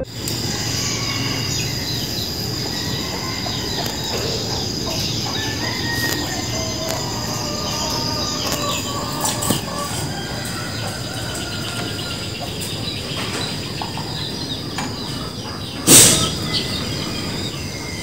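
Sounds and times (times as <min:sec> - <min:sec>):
high-pitched whine: 0:00.0 - 0:14.9
bird calls: 0:00.0 - 0:18.0
steady background din: 0:00.0 - 0:18.0.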